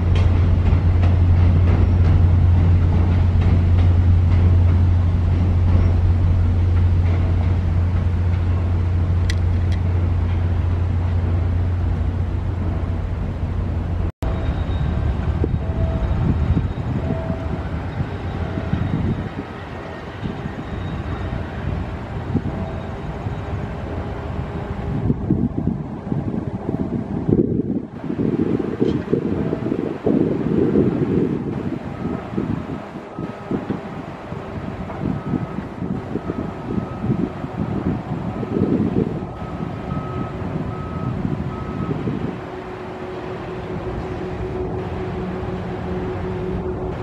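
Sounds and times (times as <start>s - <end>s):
diesel locomotive drone: 0.0s - 47.0s
train crossing steel bridge: 0.0s - 47.0s
wind on microphone: 0.0s - 47.0s.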